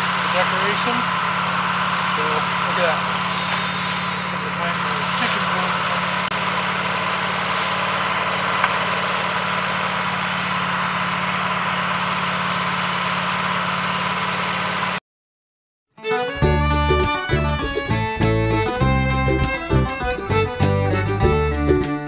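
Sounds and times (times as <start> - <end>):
sawmill engine idling: 0.0 - 15.0, 16.2 - 21.8.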